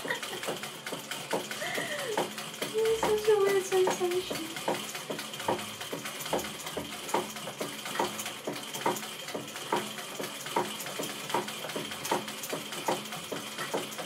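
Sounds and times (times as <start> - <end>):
sewing machine clattering: 0.0 - 14.0.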